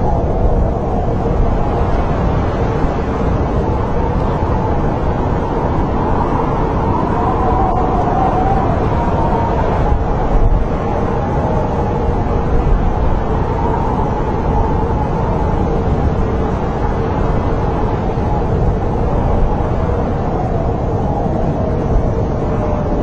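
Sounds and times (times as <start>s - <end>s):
howling snowstorm wind: 0.0s - 23.0s.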